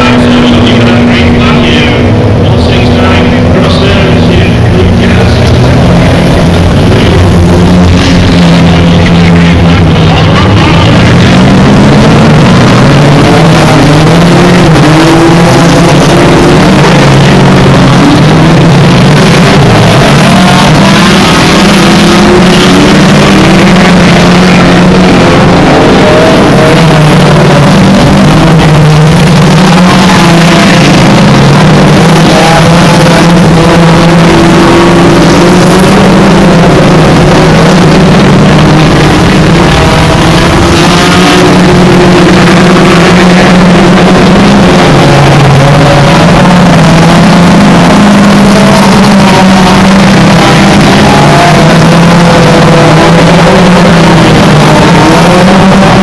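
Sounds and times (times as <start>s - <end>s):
racing car engines: 0.0s - 56.0s.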